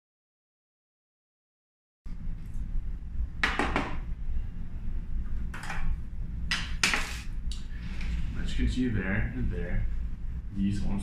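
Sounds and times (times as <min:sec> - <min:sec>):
steady low hum: 0:02.1 - 0:11.0.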